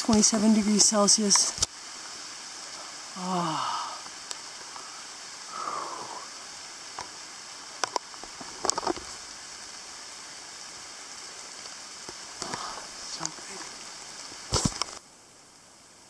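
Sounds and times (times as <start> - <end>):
rain on leaves: 0.0 - 16.0.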